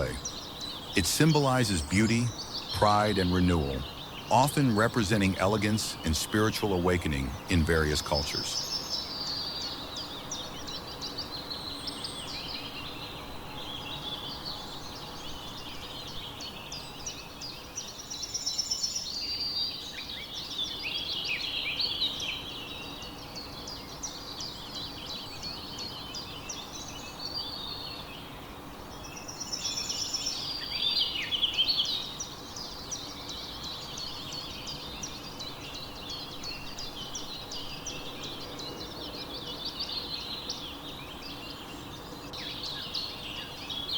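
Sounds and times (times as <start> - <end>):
small birds chirping and singing: 0.0 - 43.9.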